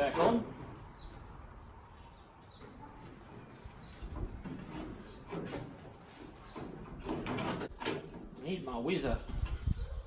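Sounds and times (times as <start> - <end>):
faint birds chirping: 0.5 - 10.0.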